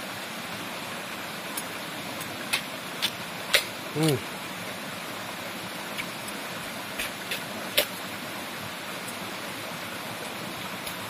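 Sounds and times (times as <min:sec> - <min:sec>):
forest stream rushing: 0:00.0 - 0:11.0.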